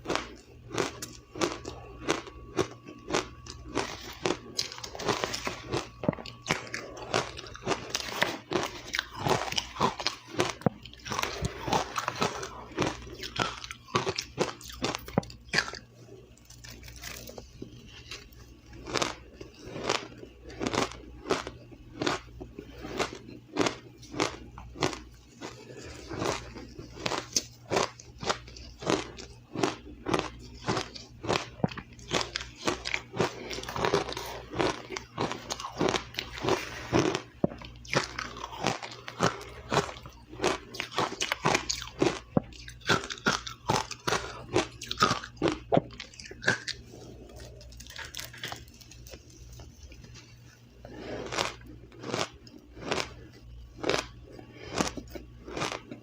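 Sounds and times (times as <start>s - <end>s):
person crunching ice: 0.0s - 15.8s, 16.6s - 49.3s, 50.9s - 56.0s.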